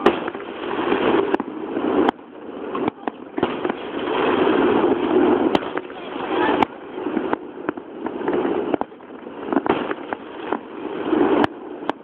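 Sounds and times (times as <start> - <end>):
fireworks bangs: 0.0 - 12.0
rushing crackling noise: 0.0 - 12.0.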